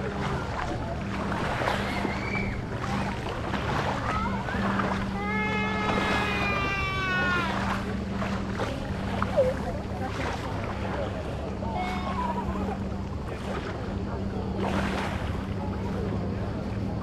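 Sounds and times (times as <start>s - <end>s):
low motor hum: 0.0s - 17.0s
people's voices: 0.0s - 17.0s.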